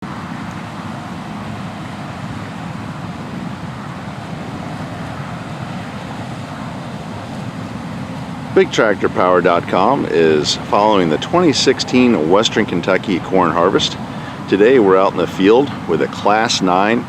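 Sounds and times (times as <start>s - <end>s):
combine harvester droning: 0.0s - 17.0s.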